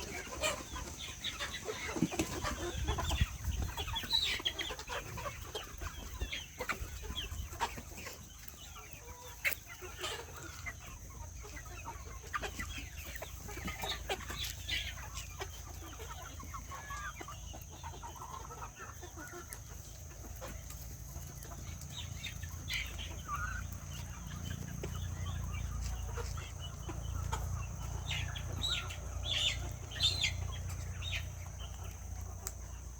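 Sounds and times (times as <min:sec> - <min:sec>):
chickens clucking: 0:00.0 - 0:32.9.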